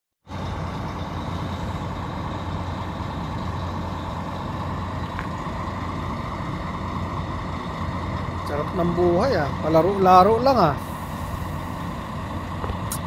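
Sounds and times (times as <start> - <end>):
vehicle engine idling: 0.2 - 13.0.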